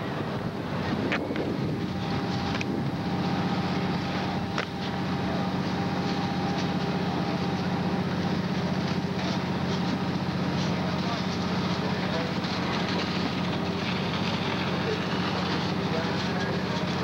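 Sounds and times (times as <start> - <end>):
fire engine pump drone: 0.0 - 17.0.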